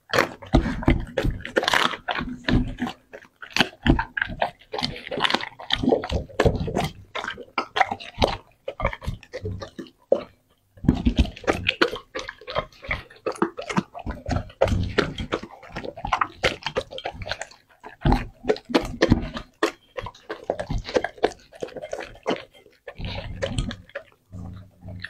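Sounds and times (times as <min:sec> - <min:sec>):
dog licking and chewing meat: 0:00.0 - 0:25.0.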